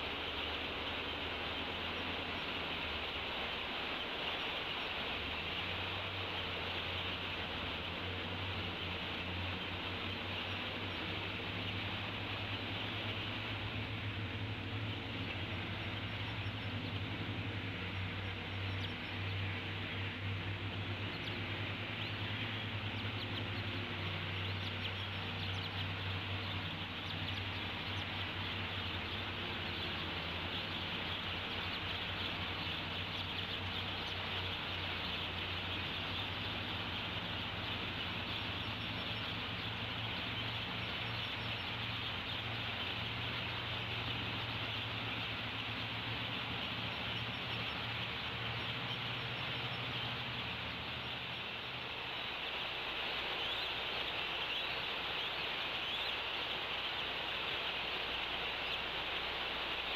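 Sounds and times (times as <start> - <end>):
faint bird chirps: 0.0 - 59.9
low constant hum: 0.0 - 59.9
outdoor hiss: 0.0 - 59.9.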